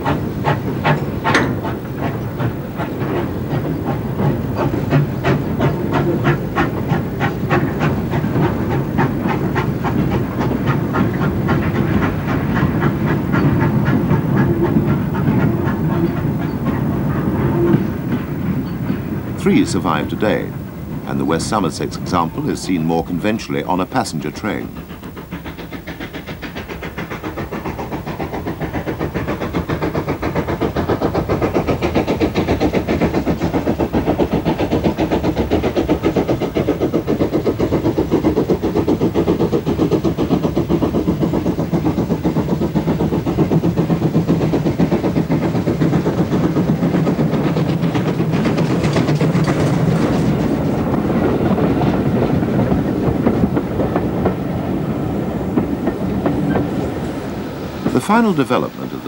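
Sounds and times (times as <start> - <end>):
steam locomotive exhaust beats: 0.0 - 59.0
train coaches rolling by: 0.0 - 59.0.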